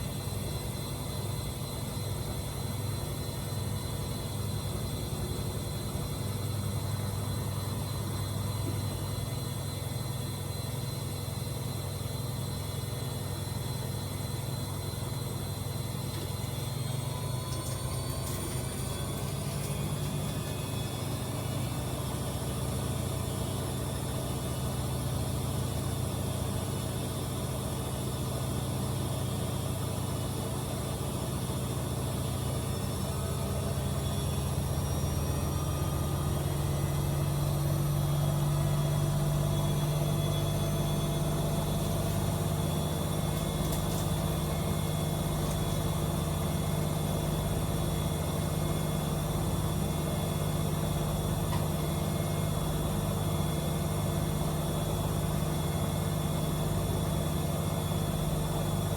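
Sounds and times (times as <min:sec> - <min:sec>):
washing machine humming: 0:00.0 - 0:58.9.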